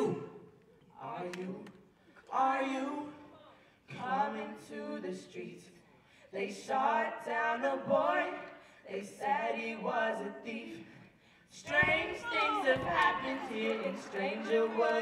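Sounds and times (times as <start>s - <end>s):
voices singing a cappella: 0.0s - 15.0s.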